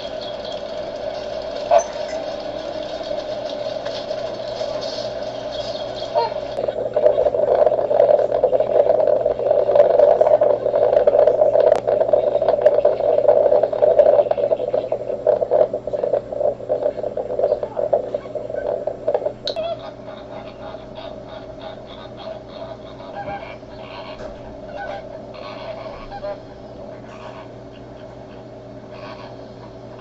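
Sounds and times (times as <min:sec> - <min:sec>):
flamingos calling: 0:00.0 - 0:30.0.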